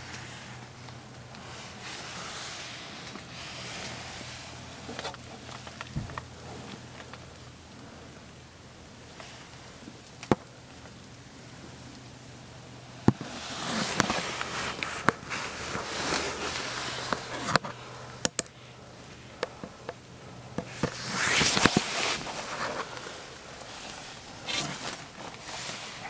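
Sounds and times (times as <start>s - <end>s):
rustling and scraping on ground: 0.0s - 7.8s, 9.1s - 26.0s.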